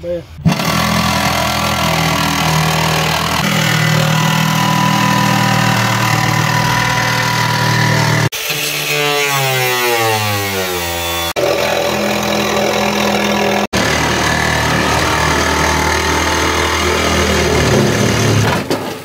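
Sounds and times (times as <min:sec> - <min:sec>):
power tool cutting metal: 0:00.4 - 0:18.5
angle grinder winding down: 0:00.5 - 0:18.5.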